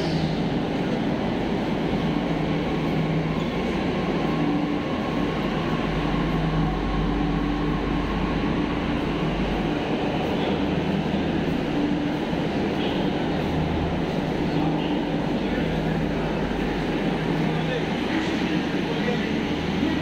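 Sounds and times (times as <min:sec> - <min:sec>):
train electrical hum: 0:00.0 - 0:20.0.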